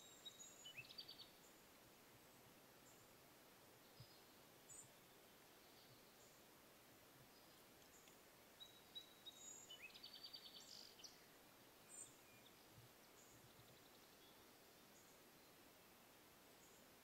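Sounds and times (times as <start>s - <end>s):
small songbird singing: 0.0s - 1.8s, 2.8s - 6.6s, 7.2s - 17.0s
quiet steady hiss: 0.0s - 17.0s.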